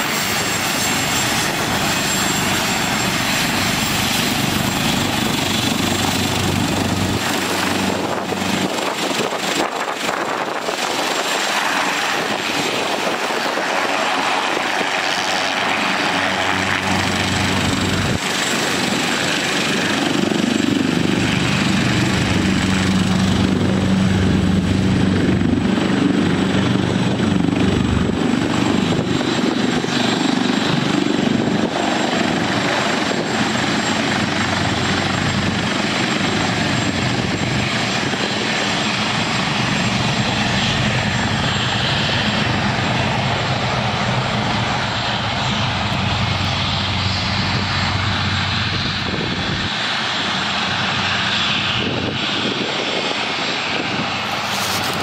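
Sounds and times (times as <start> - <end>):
helicopter rotor beat: 0.0 - 55.0
helicopter turbine whine: 0.0 - 55.0.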